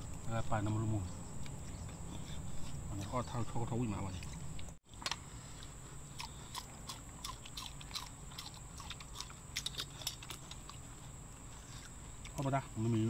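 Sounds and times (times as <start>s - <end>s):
people eating with hands: 0.0s - 13.0s.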